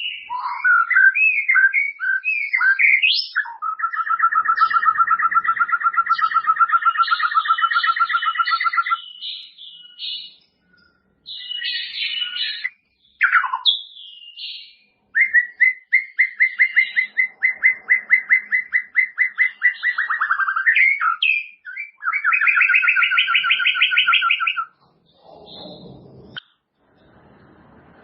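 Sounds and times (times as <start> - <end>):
bird singing: 0.0 - 28.0.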